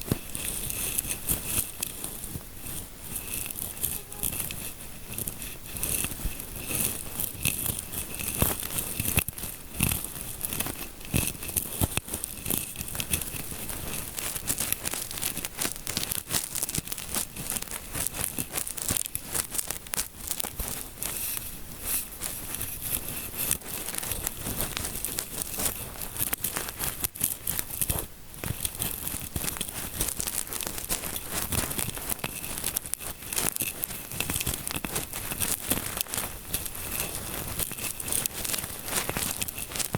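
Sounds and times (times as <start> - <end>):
fingers scratching near microphone: 0.0 - 39.9.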